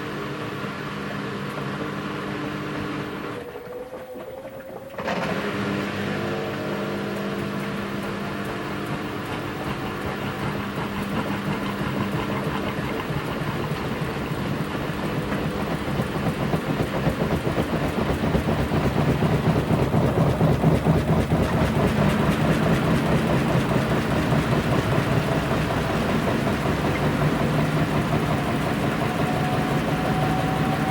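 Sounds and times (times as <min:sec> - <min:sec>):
washing machine churning: 0:00.0 - 0:30.9.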